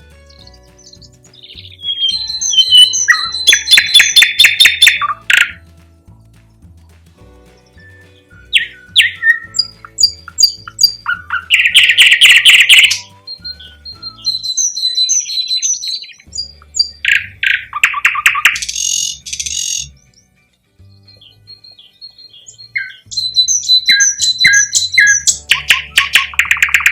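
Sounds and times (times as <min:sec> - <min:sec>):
nightingale singing: 0:00.0 - 0:05.7, 0:07.4 - 0:26.9
faint background music: 0:00.0 - 0:26.9.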